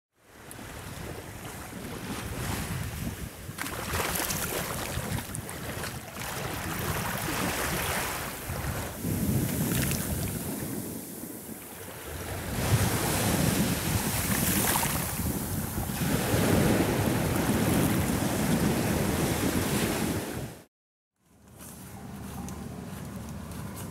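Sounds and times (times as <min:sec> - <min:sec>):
waves washing over sand: 0:00.3 - 0:20.7
wind rumbling on microphone: 0:00.6 - 0:20.7.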